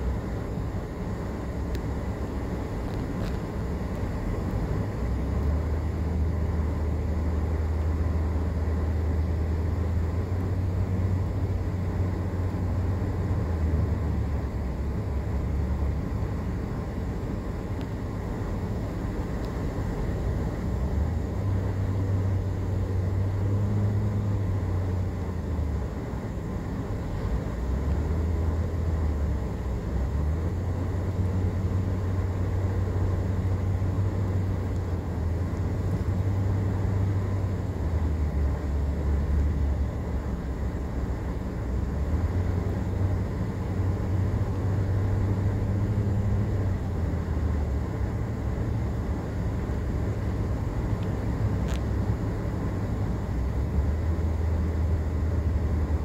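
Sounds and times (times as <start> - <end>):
car cabin engine and tyre rumble: 0.0 - 56.0.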